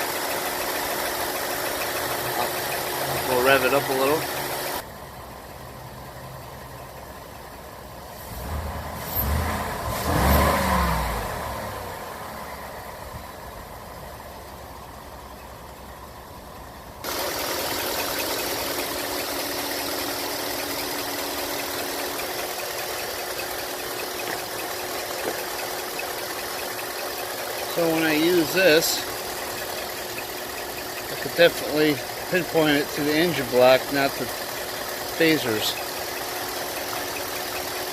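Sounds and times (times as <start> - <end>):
car engine revving and idling: 0.0 - 37.9.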